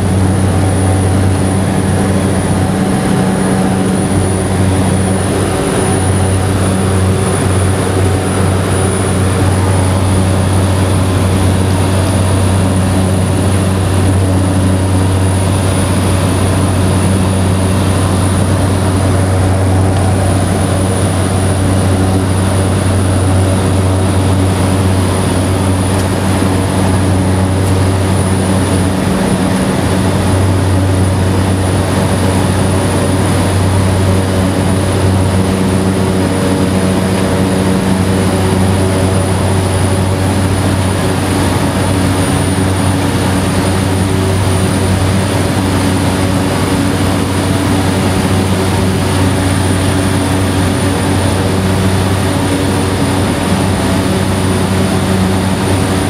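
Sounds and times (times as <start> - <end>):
high turbine whine: 0.0 - 56.0
propeller drone: 0.0 - 56.0.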